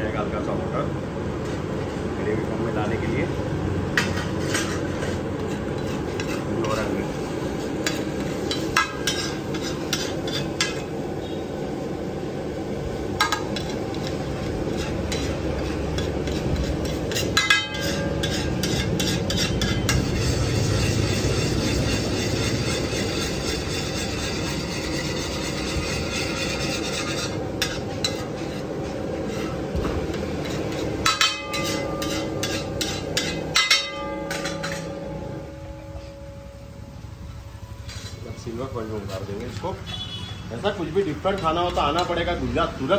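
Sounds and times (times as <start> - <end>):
metal spatula scraping a pan: 3.9 - 11.4, 13.2 - 37.0, 37.8 - 42.3
food sizzling in a pan: 4.1 - 39.8.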